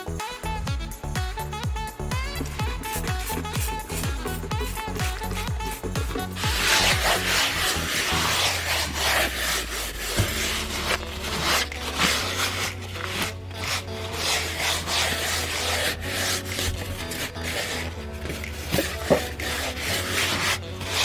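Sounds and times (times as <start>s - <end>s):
brush scrubbing a surface: 1.9s - 21.0s.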